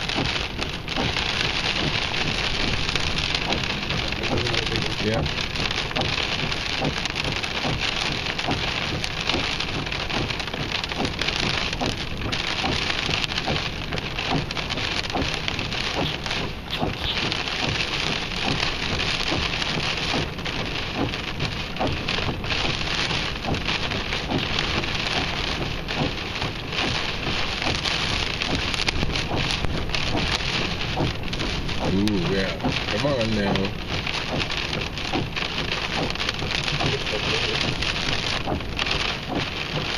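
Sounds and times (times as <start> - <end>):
storm rain pelting a surface: 0.0 - 39.9.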